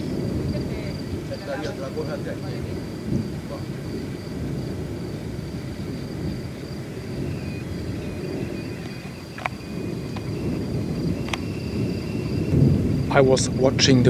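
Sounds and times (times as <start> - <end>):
volcano rumbling: 0.0 - 14.0.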